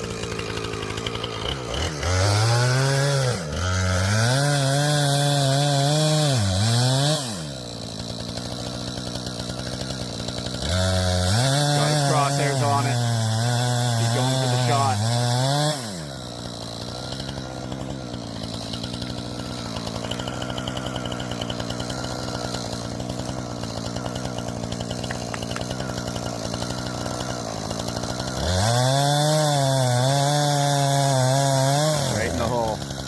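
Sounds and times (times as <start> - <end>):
chainsaw engine revving: 0.0 - 33.0.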